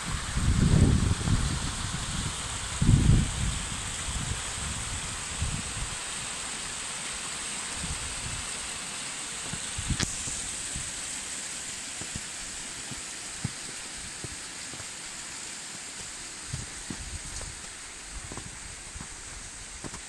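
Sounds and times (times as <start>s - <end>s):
stream splashing over rocks: 3.7s - 20.0s.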